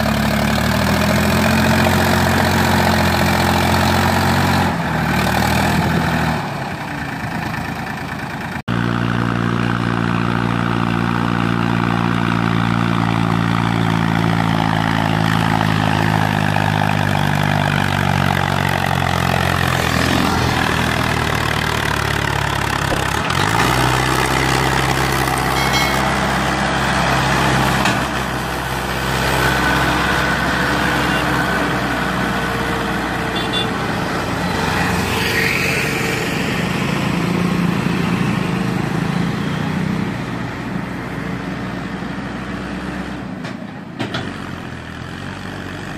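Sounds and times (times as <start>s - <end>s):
tractor engines humming: 0.0s - 45.9s.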